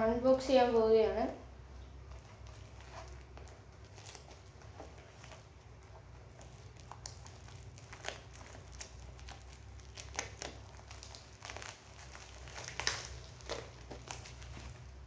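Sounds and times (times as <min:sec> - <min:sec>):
packaging crinkling and rustling: 0:01.8 - 0:15.0.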